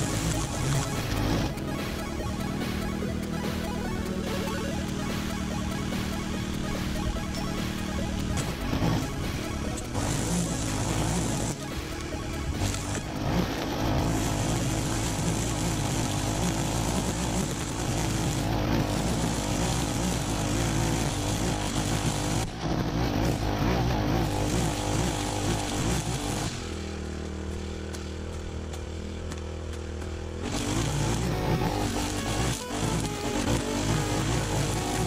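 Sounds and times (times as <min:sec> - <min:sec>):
brushcutter cutting grass: 0:00.0 - 0:35.0.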